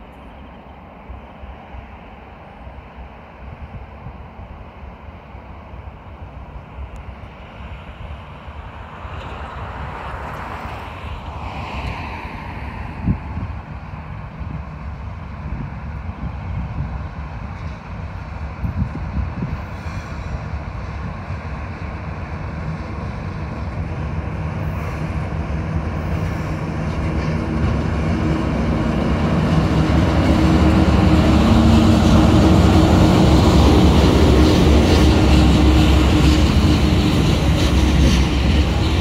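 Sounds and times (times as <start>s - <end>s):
diesel locomotive engines droning: 0.0s - 39.0s.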